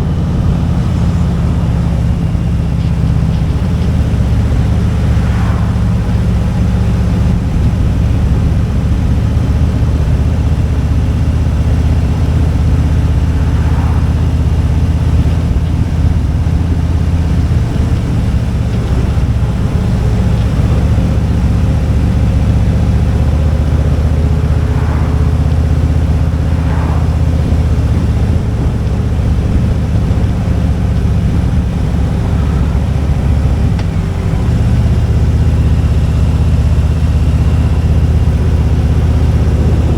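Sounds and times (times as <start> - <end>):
motorcycle engine running: 0.0 - 39.9
road and air noise: 0.0 - 39.9.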